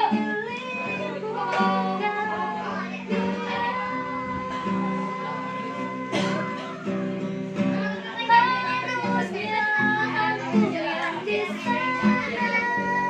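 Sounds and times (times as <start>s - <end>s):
child singing pop song: 0.0s - 13.0s
instrumental accompaniment: 0.0s - 13.0s.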